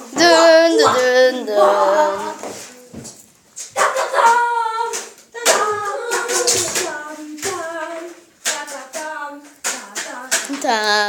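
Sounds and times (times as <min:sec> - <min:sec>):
child singing: 0:00.0 - 0:03.0, 0:03.8 - 0:11.0.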